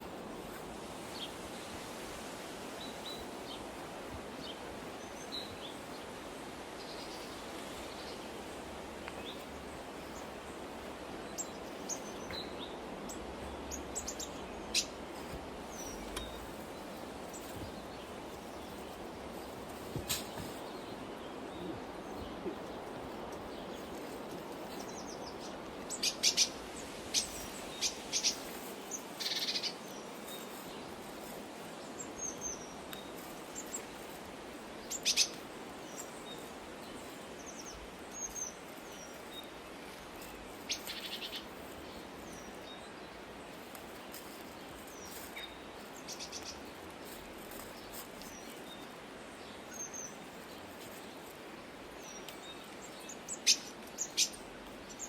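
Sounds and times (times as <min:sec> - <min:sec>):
low background hiss: 0:00.0 - 0:55.0.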